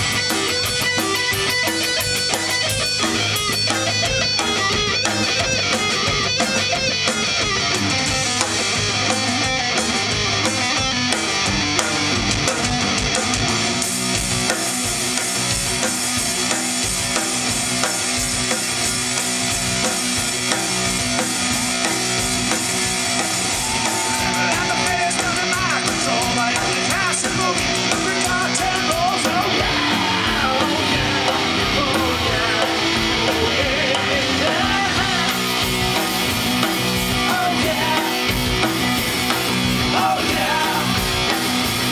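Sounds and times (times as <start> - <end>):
drum kit: 0.0 - 41.9
electric bass: 0.0 - 41.9
electric guitar: 0.0 - 41.9.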